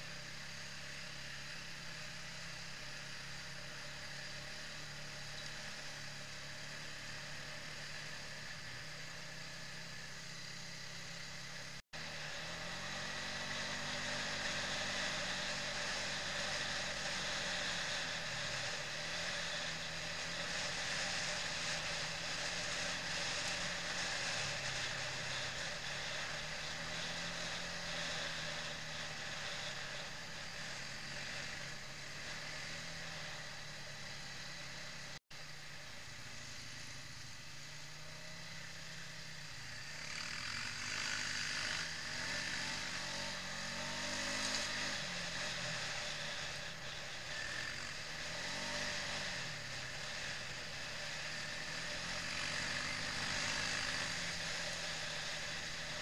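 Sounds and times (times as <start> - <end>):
quad bike engine running: 0.0 - 56.0
steady rushing hiss: 0.0 - 56.0.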